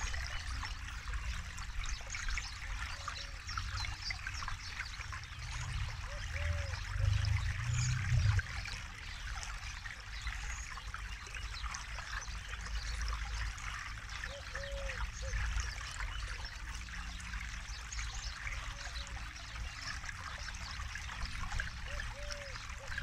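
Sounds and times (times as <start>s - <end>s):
low water rush: 0.0s - 23.0s
river babbling over stones: 0.0s - 23.0s.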